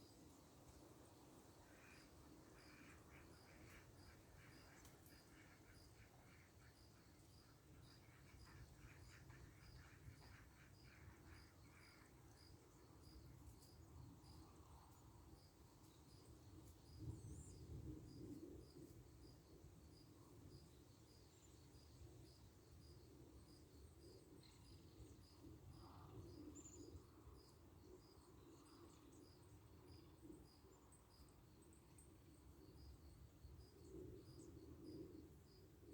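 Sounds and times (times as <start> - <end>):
faint insect chirping: 0.0 - 35.9.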